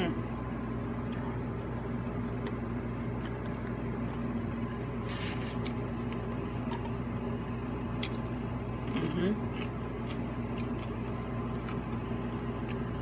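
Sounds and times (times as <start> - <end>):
low electrical hum: 0.0 - 13.0
person chewing food: 1.0 - 7.2, 7.8 - 13.0.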